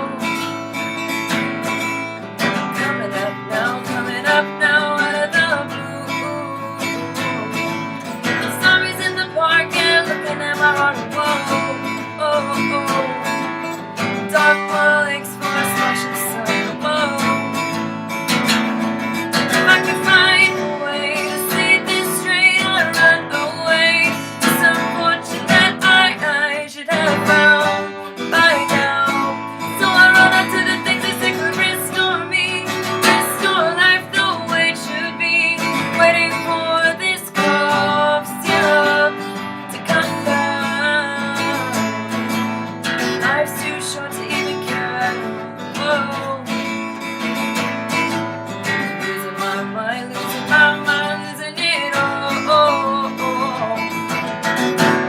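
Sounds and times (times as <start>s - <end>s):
acoustic guitar strumming chords: 0.0s - 55.0s
person singing: 0.0s - 55.0s.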